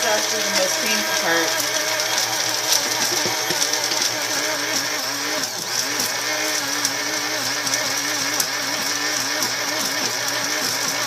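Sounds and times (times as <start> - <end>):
blender crushing ice: 0.0 - 11.0.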